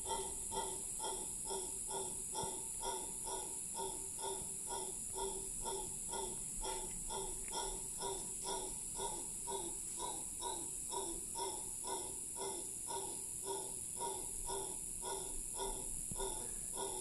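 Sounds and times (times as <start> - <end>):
howler monkey howling: 0.0 - 17.0.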